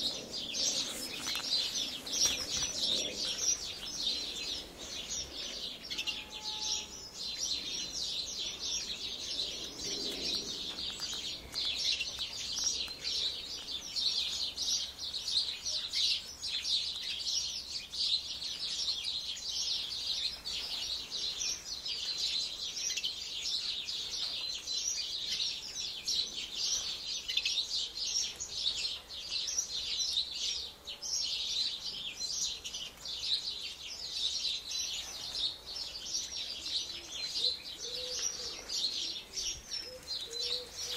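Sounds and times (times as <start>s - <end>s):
small birds chirping and chattering: 0.0s - 40.9s.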